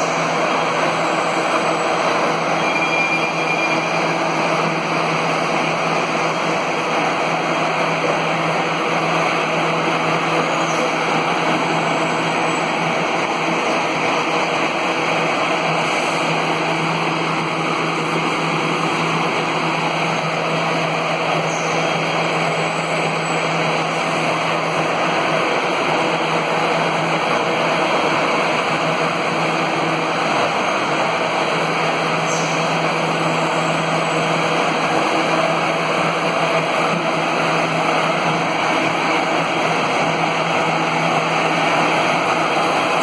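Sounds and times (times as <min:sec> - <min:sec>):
factory machinery drone: 0:00.0 - 0:43.0.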